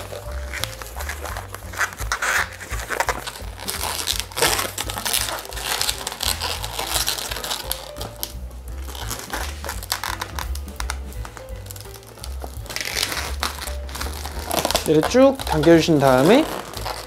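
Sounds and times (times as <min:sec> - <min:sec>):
background music with bass line: 0:00.0 - 0:17.0
balloon rubbing and squeaking: 0:00.0 - 0:17.0.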